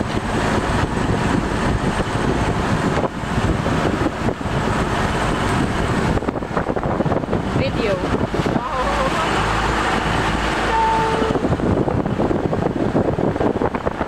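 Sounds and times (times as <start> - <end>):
boat engine rough drone: 0.0 - 14.0.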